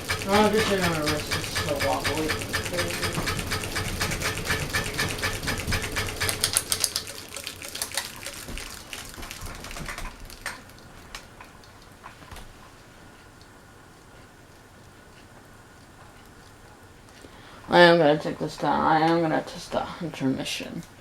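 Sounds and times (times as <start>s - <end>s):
ceiling fan clicking and humming: 0.0s - 21.0s.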